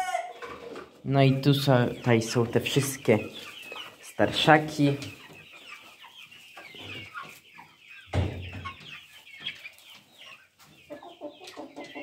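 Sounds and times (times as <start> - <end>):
chicks cheeping and clucking: 0.0 - 12.0.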